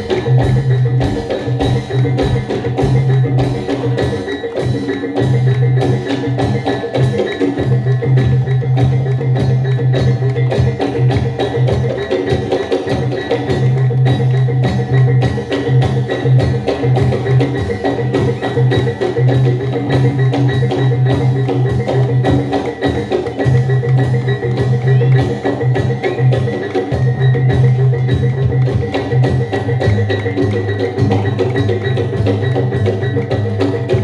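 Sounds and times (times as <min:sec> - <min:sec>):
ringing metal percussion: 0:00.0 - 0:34.0.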